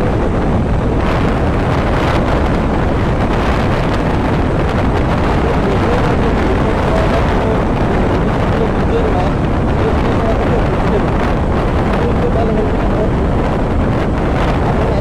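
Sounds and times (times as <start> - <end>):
motorbike engine and road noise: 0.0 - 15.0
wind buffeting microphone: 0.0 - 15.0.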